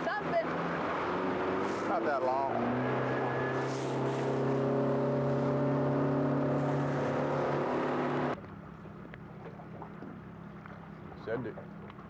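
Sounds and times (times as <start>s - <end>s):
outboard boat motor running: 0.0s - 12.0s.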